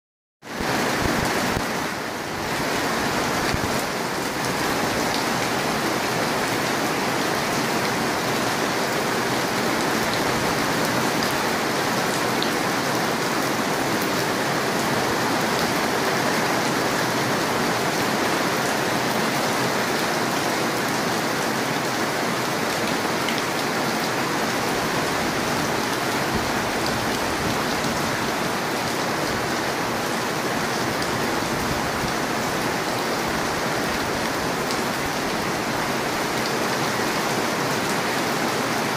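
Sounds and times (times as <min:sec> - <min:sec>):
heavy rain on pavement and cars: 0:00.5 - 0:38.9.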